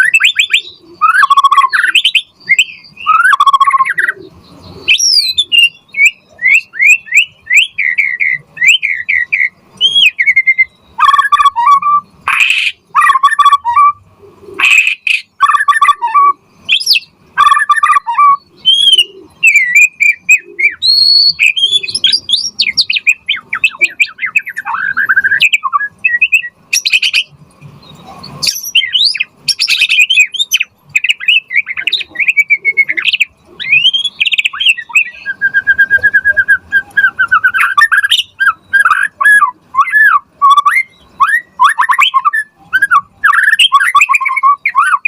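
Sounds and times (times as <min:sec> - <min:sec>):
bird singing varied whistles: 0:00.0 - 0:14.0, 0:14.6 - 0:45.0.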